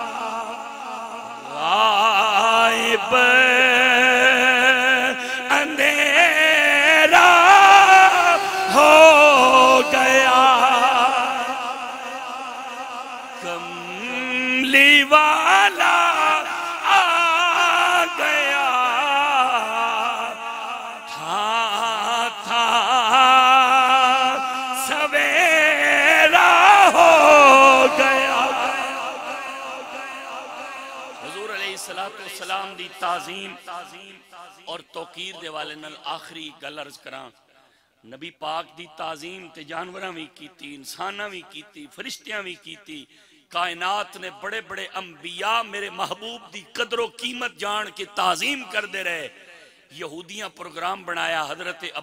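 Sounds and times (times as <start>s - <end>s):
man chanting through a microphone: 0.0s - 37.4s, 38.0s - 52.0s.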